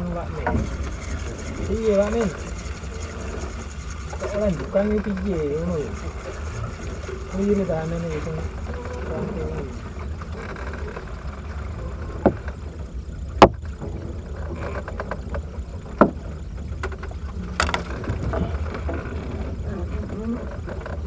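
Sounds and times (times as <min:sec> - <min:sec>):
low rumble around boat: 0:00.0 - 0:21.0.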